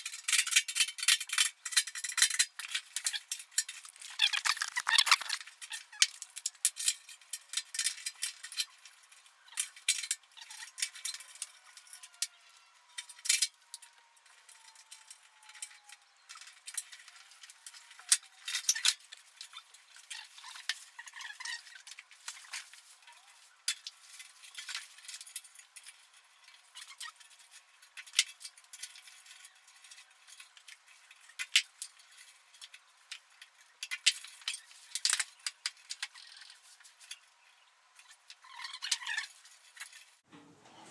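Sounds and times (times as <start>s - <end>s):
metal parts clicking and clinking: 0.0s - 37.3s, 38.0s - 40.2s.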